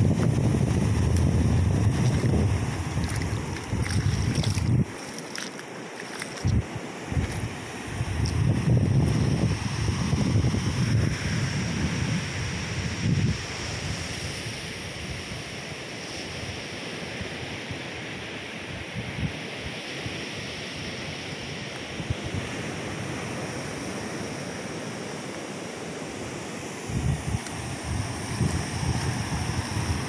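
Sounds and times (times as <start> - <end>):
wind on microphone: 0.0 - 15.6, 18.7 - 24.1, 26.7 - 30.0.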